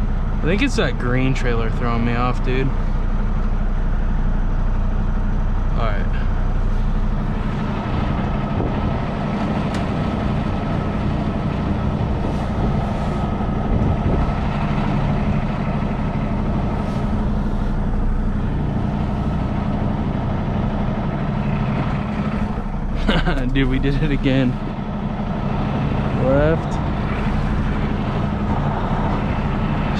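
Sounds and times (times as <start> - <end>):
diesel truck engine running: 0.0 - 29.9.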